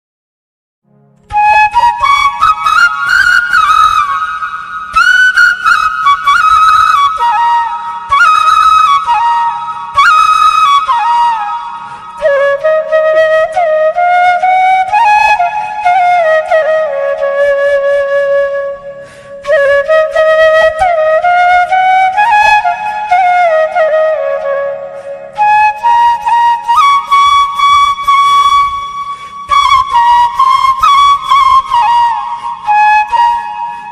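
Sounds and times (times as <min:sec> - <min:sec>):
bamboo flute melody: 0:01.2 - 0:33.9.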